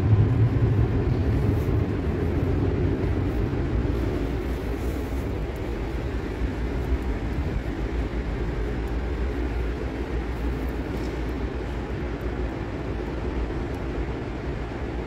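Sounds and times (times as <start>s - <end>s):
low rumble of underground station: 0.0s - 15.0s.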